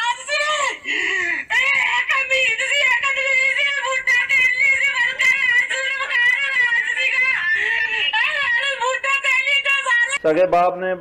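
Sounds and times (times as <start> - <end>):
woman wailing and crying: 0.0 - 10.2.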